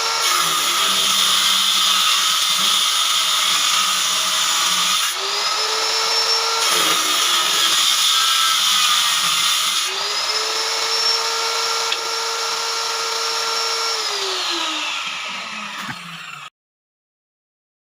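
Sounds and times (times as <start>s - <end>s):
power tool motor whine: 0.0s - 16.5s
wood cutting noise: 0.0s - 16.5s.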